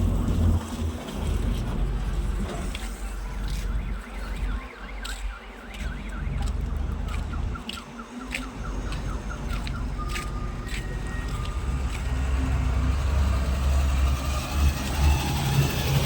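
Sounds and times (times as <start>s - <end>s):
vehicle engine idling: 0.0s - 16.0s
electronic alarm warbling: 3.0s - 16.0s.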